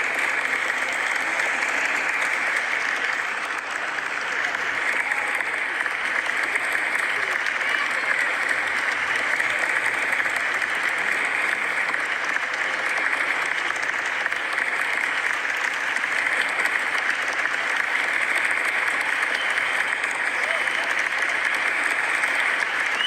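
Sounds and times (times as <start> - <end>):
crowd applause: 0.0 - 23.0.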